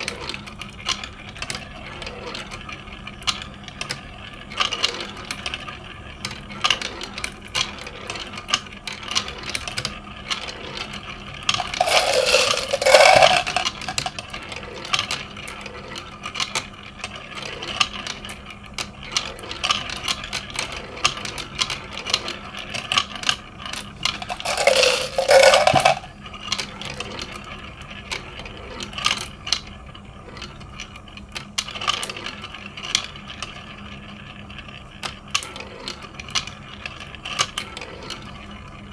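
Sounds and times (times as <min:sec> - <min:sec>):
marbles clattering through plastic track: 0:00.0 - 0:38.5
marble whirring round spiral funnel: 0:00.0 - 0:38.9.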